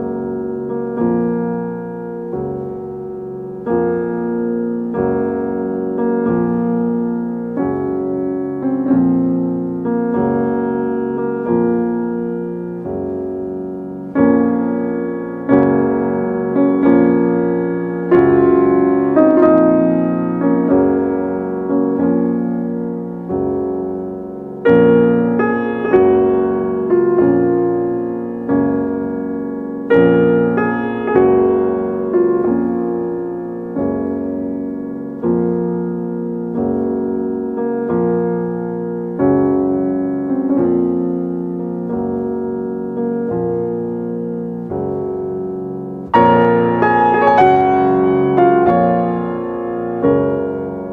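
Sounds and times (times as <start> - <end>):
slow piano chords: 0.0 - 50.9.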